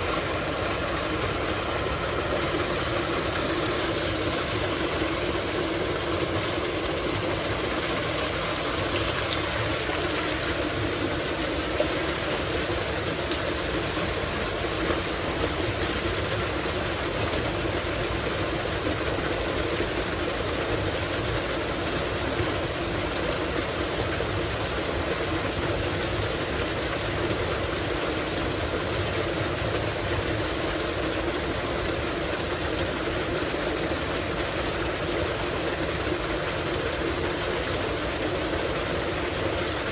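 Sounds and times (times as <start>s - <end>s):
pump humming: 0.0s - 39.9s
water gushing into a tank: 0.0s - 39.9s.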